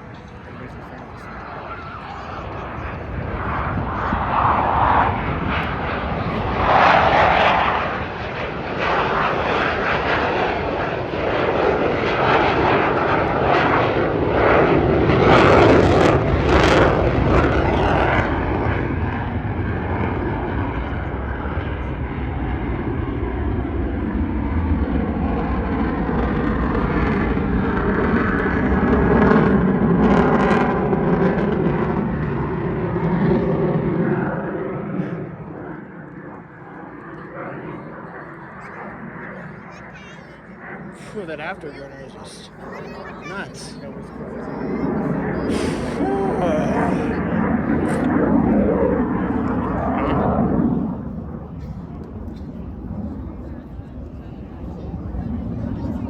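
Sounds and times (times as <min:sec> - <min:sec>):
fighter jets roaring past: 0:00.0 - 0:53.0.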